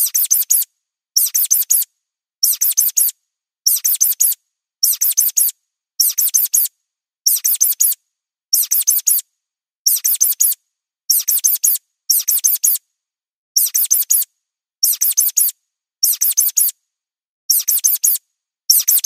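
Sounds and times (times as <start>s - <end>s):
mouse squeaks: 0.0s - 6.7s, 7.3s - 9.2s, 9.9s - 12.8s, 13.6s - 16.8s, 17.5s - 19.0s.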